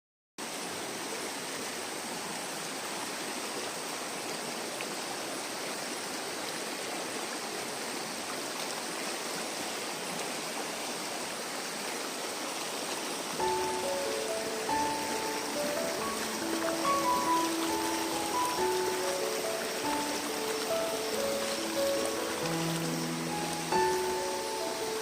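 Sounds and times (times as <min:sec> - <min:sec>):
stream water running: 0:00.4 - 0:25.0.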